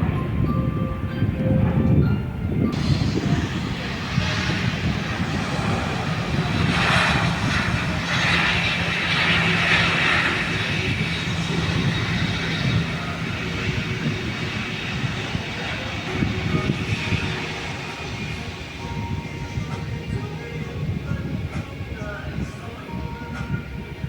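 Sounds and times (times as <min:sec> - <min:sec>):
jet engines humming: 0:01.3 - 0:24.0
rushing air noise: 0:02.5 - 0:24.0.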